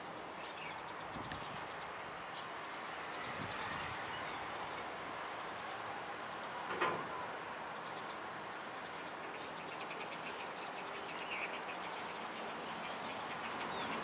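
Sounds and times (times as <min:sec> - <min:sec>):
distant traffic hum: 0:00.0 - 0:14.0
birds chirping: 0:00.3 - 0:14.0.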